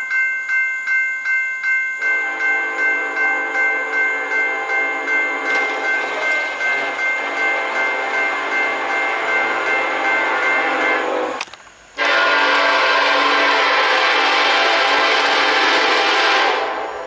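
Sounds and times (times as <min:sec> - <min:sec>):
locomotive air horn chord: 0:02.0 - 0:11.4, 0:12.0 - 0:17.0.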